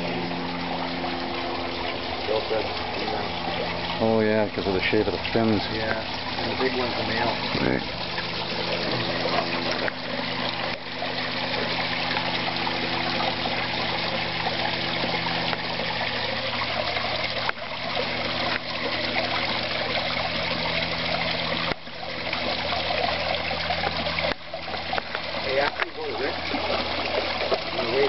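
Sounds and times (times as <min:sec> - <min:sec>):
waterfall splashing into pond: 0:00.0 - 0:28.0.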